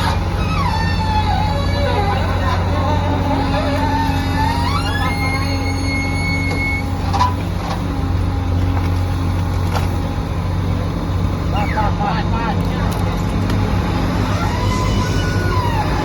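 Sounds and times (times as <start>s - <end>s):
high hydraulic whine: 0.0s - 8.7s, 11.2s - 16.0s
excavator diesel engine running: 0.0s - 16.0s.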